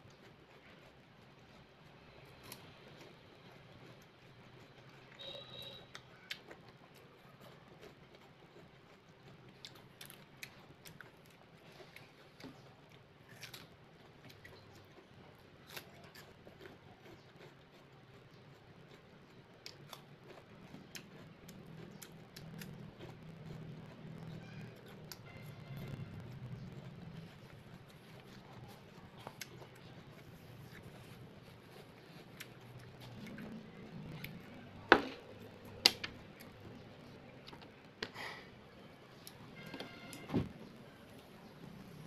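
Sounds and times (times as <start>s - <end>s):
chewing crisp apple: 0.0s - 42.0s.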